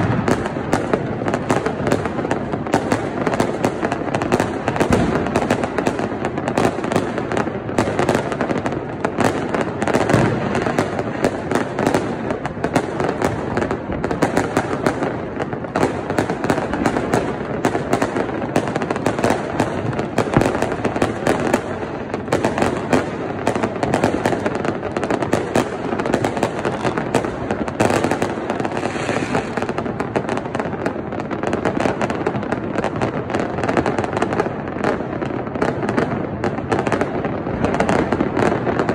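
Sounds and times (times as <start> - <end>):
fireworks and firecrackers crackling: 0.0 - 38.9.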